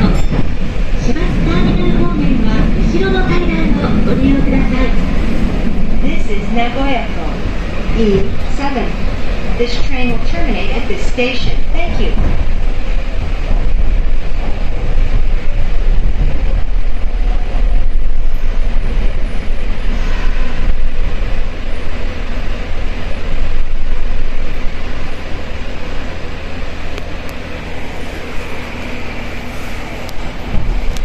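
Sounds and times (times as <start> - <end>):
train wheels and motors rumbling: 0.0 - 31.0.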